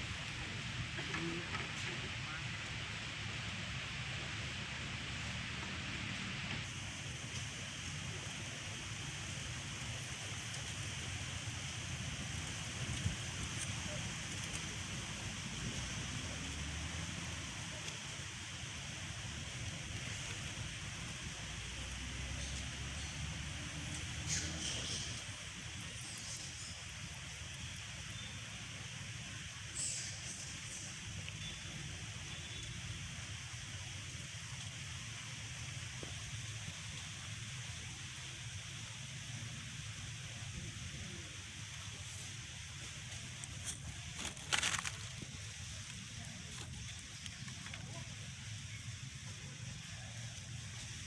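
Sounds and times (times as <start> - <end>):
constant hiss: 0.0 - 51.0.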